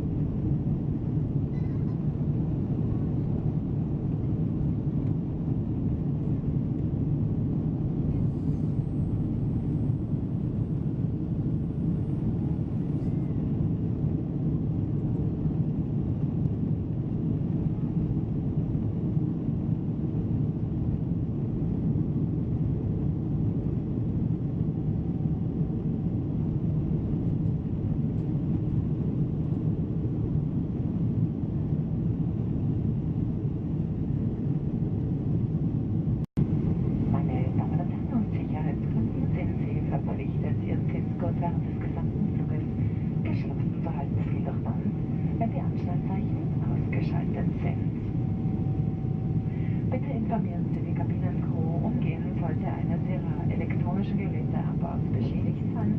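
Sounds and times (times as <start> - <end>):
airplane cabin engine drone: 0.0 - 55.9.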